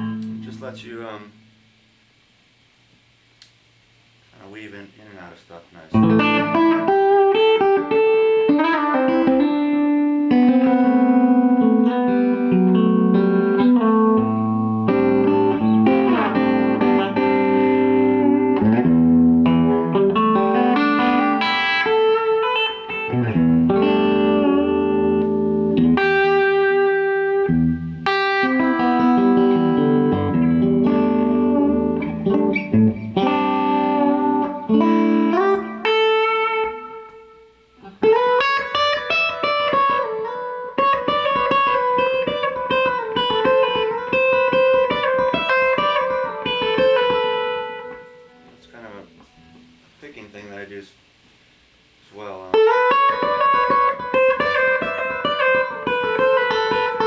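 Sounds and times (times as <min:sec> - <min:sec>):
electric guitar fingerpicked: 0:00.0 - 0:04.0, 0:05.7 - 0:50.0, 0:51.9 - 0:57.0.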